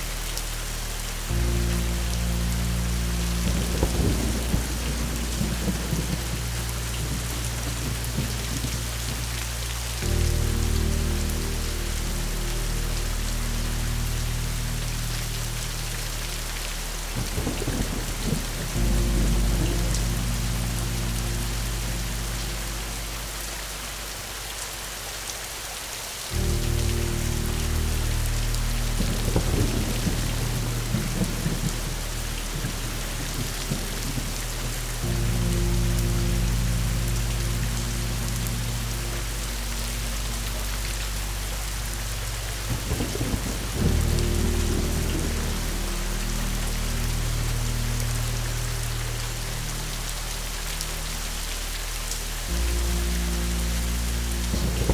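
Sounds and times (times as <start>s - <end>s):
steady rain: 0.0s - 54.9s
thunder rolling: 0.7s - 24.2s, 26.3s - 54.9s.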